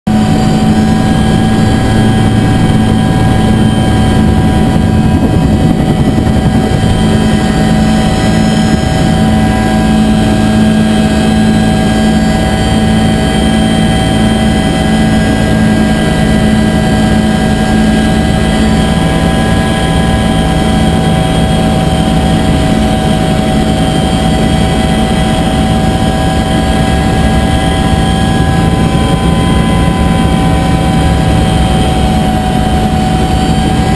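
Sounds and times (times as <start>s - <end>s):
helicopter droning in flight: 0.1s - 33.9s.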